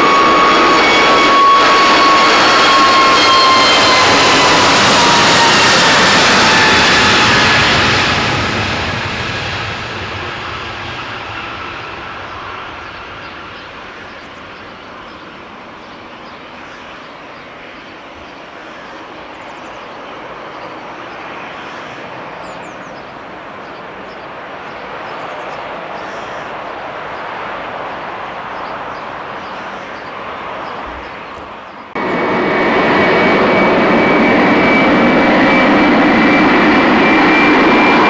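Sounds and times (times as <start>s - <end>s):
jet airliner engines roaring past: 0.0s - 38.0s.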